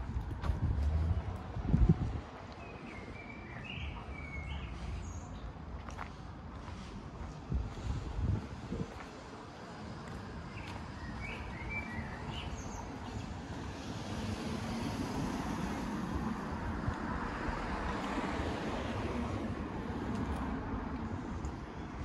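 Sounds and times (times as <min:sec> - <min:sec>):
passing vehicle: 0:00.0 - 0:05.6, 0:06.7 - 0:22.0.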